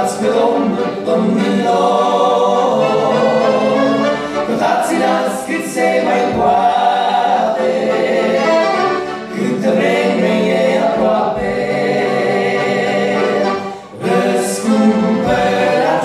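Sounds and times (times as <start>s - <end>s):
accordions: 0.0s - 16.0s
male vocal group singing hymn: 0.0s - 16.0s.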